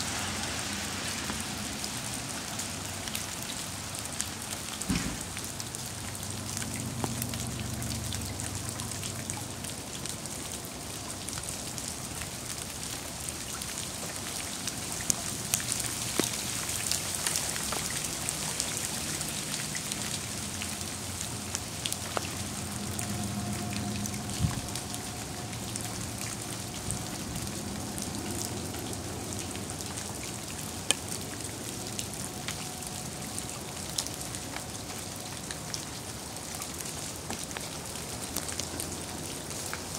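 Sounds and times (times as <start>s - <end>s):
sharp water drips: 0.4s - 39.9s.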